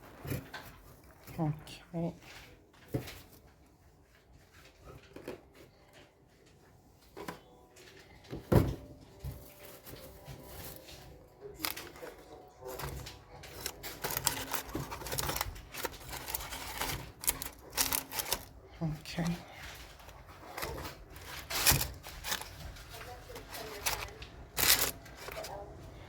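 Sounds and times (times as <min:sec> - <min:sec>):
rustling and scraping: 0:00.0 - 0:01.4, 0:02.1 - 0:26.0.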